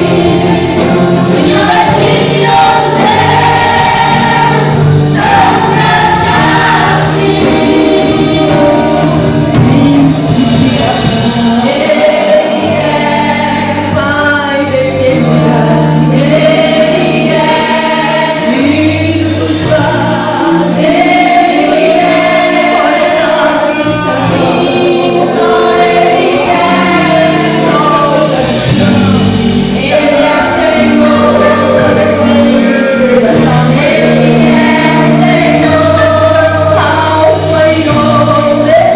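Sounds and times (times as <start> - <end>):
gospel choir singing: 0.0 - 38.9
instrumental accompaniment: 0.0 - 38.9.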